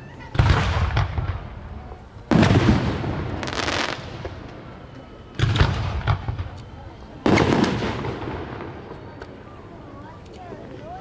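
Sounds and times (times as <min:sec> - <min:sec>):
fireworks booming: 0:00.3 - 0:09.5.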